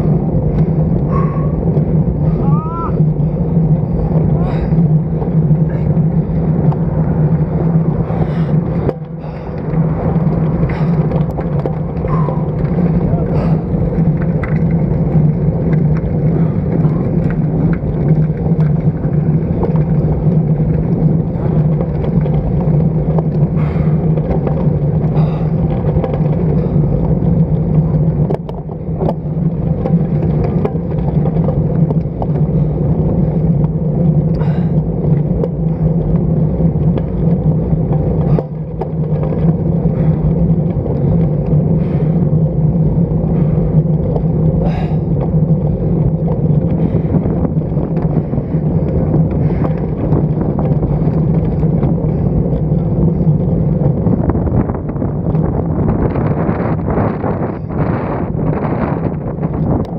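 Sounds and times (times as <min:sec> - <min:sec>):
bicycle road noise: 0:00.0 - 0:59.9
wind rushing over microphone: 0:00.0 - 0:59.9.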